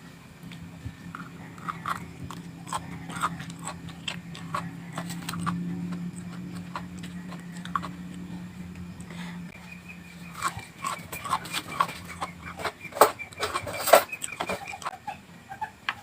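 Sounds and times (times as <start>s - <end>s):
low hum: 0.0s - 16.0s
chewing crisp vegetables: 0.4s - 15.6s.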